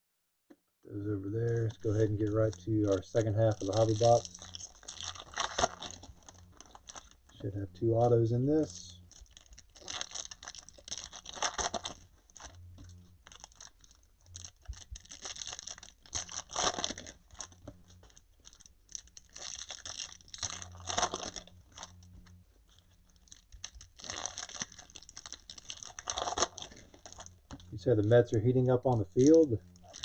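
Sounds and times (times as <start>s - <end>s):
foil wrappers crinkling and tearing: 1.0s - 30.0s.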